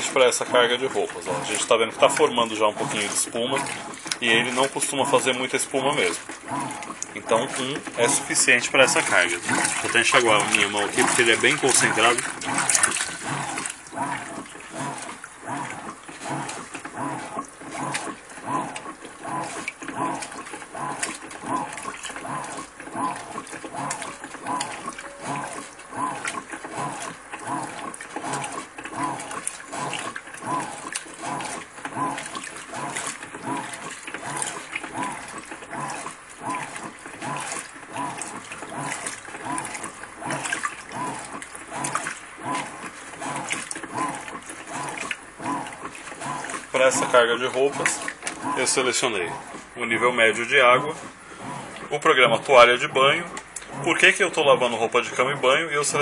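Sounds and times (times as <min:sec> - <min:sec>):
washing machine agitator whirring: 0:00.0 - 0:56.0
water sloshing in tub: 0:00.0 - 0:56.0.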